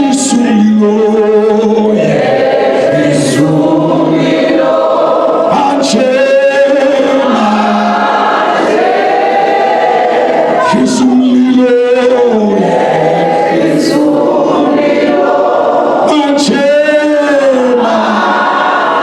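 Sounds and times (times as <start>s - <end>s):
congregation singing: 0.0s - 19.0s.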